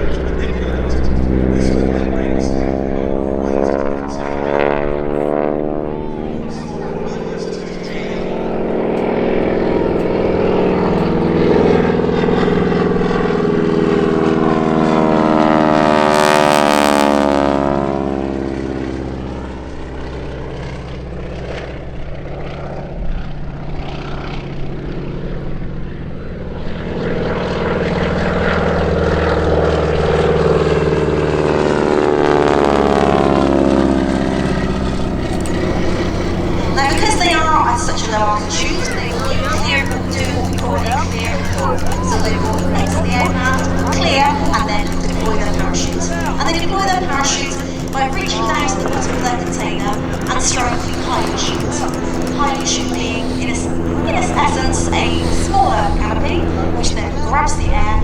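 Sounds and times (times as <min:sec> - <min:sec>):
propeller aircraft flying past: 0:00.0 - 0:22.6, 0:26.7 - 0:58.0.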